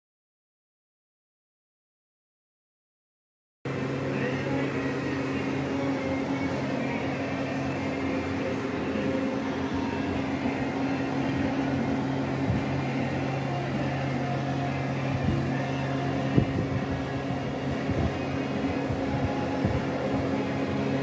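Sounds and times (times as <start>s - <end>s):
steady machine hum: 3.7s - 21.0s.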